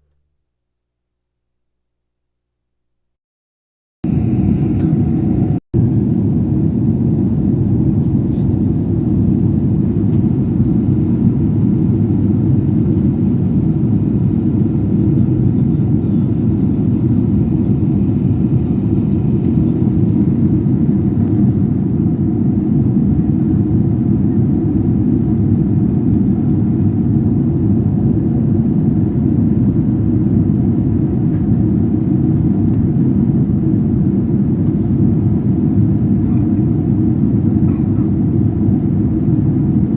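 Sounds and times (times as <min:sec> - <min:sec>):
airplane cabin rumble: 0:04.0 - 0:39.9.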